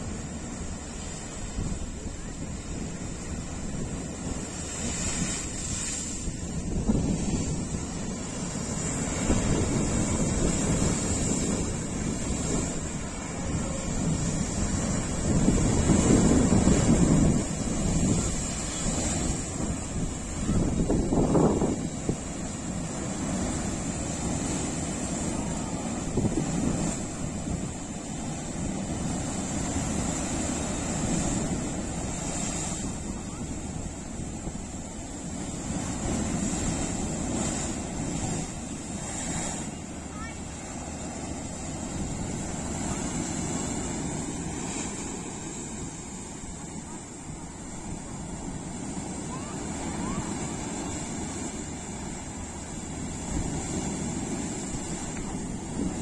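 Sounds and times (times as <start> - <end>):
waves breaking on rocks: 0.0 - 56.0
wind rumbling on microphone: 0.0 - 56.0.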